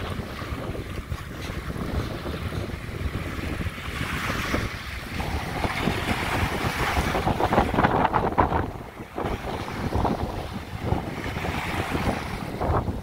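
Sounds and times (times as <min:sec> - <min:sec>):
small waves washing on beach: 0:00.0 - 0:13.0
wind buffeting microphone: 0:00.0 - 0:13.0.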